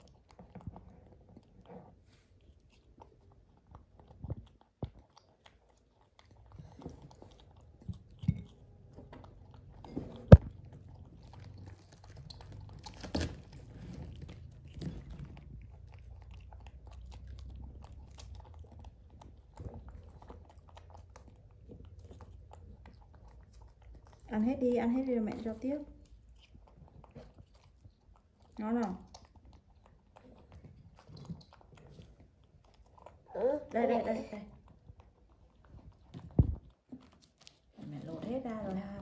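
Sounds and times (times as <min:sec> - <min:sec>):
monkey chewing soft fruit: 0:00.0 - 0:39.0.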